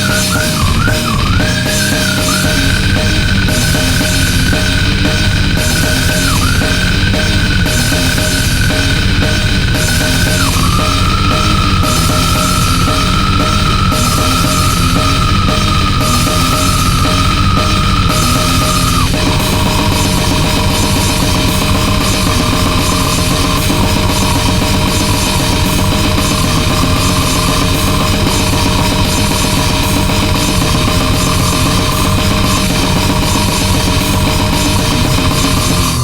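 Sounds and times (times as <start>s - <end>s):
grindcore music: 0.0s - 36.0s.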